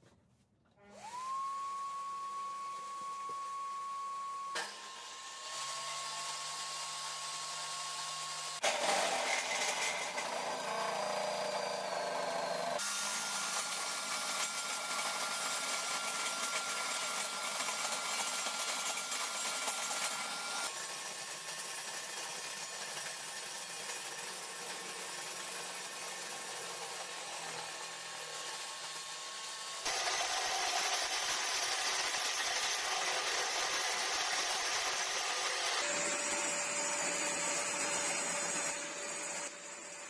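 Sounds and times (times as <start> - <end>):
drill-spun rod shaved in jig: 0.8 - 40.0
dust extraction vacuum: 0.8 - 40.0.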